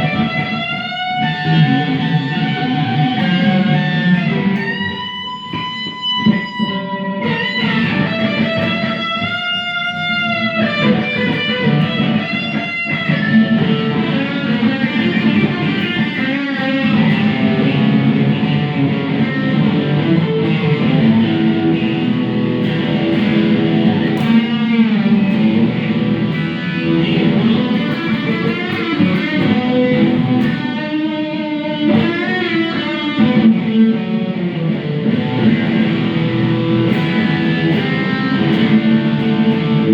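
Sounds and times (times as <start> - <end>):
electric guitar: 0.0 - 39.9.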